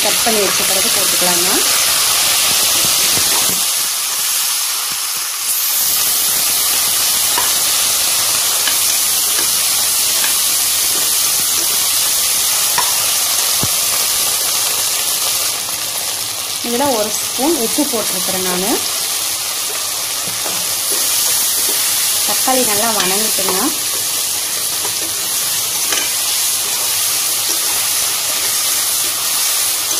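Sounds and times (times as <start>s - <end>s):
vegetables sizzling in hot oil: 0.0s - 29.9s.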